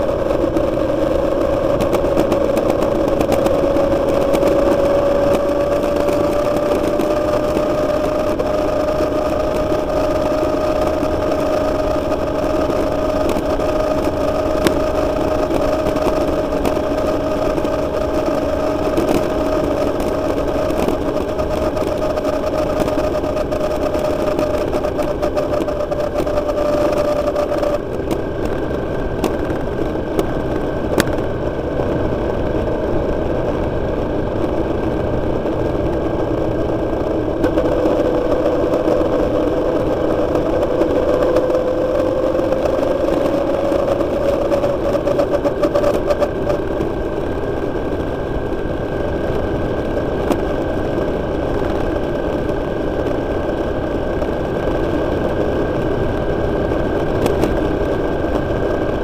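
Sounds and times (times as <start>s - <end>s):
motorcycle engine cruising: 0.0s - 59.0s
road and wind rush: 0.0s - 59.0s.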